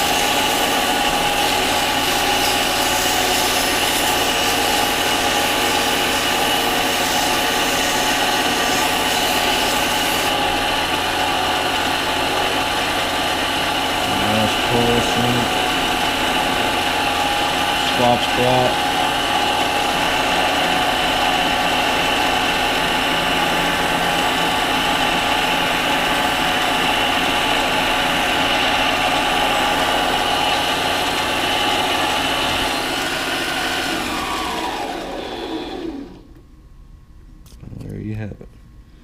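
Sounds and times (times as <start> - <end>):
lathe motor whine: 0.0 - 36.4.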